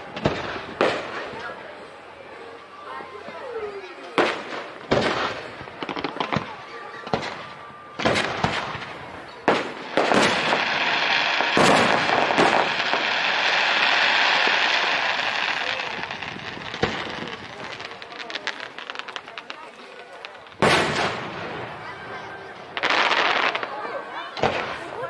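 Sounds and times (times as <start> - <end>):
fireworks bangs: 0.0 - 2.0, 3.8 - 25.0
continuous rush of noise: 0.0 - 25.0.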